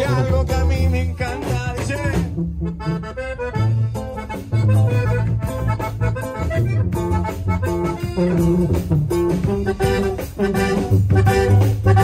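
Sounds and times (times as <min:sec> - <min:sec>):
accordion melody: 0:00.0 - 0:12.0
drums: 0:00.0 - 0:12.0
guitar: 0:00.0 - 0:12.0
tuba bass line: 0:00.0 - 0:12.0.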